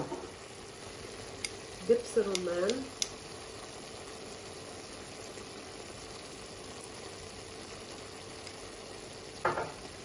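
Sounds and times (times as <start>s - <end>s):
faint steady hum: 0.0s - 10.0s
livers sizzling in a pan: 0.0s - 10.0s.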